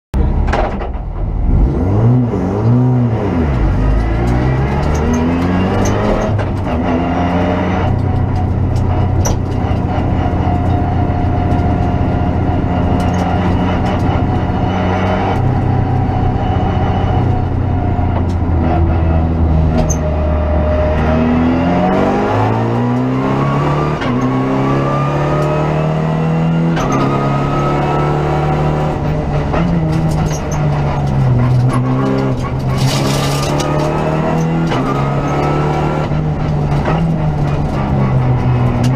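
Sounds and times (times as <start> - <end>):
car engine revving: 1.2 - 38.9.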